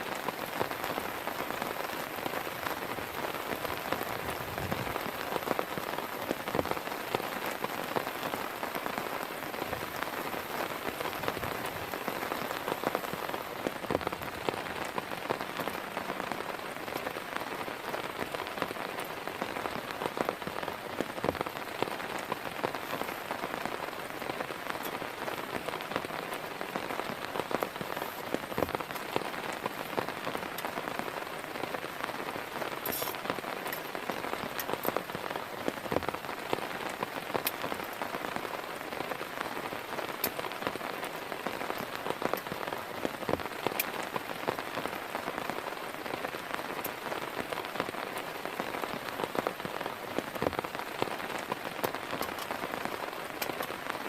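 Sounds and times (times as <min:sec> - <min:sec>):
heavy rain: 0:00.0 - 0:54.0
raindrops striking close surface: 0:00.0 - 0:54.0.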